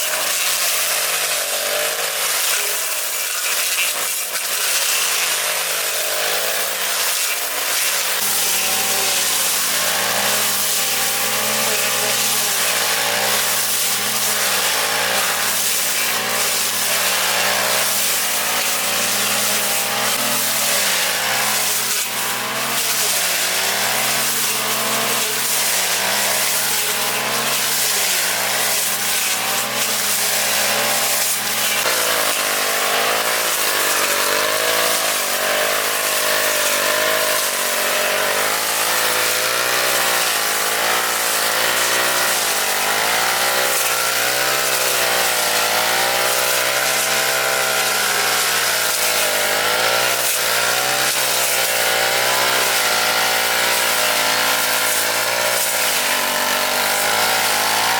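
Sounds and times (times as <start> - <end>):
lawn mower engine running: 4.2 - 57.9.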